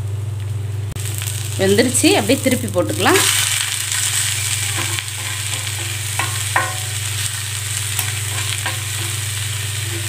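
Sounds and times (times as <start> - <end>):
dosa sizzling on hot pan: 0.9 - 10.0.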